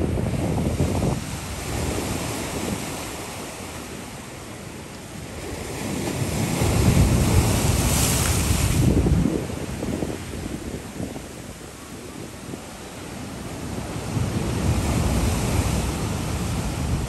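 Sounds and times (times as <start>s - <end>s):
wind buffeting microphone: 0.0s - 3.5s, 5.5s - 17.0s
surf washing onto beach: 0.0s - 17.0s.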